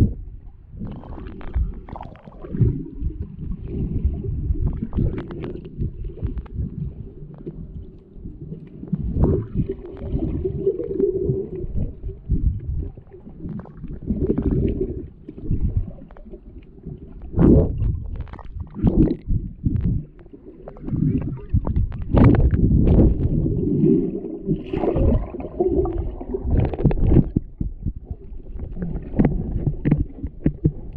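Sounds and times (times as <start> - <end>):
underwater rumbling and sloshing: 0.0 - 30.9.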